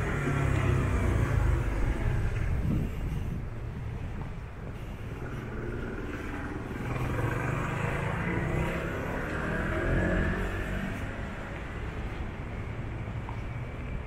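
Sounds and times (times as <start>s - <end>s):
car passing close: 0.0s - 3.4s, 4.8s - 13.2s
vehicle approaching: 0.0s - 14.0s.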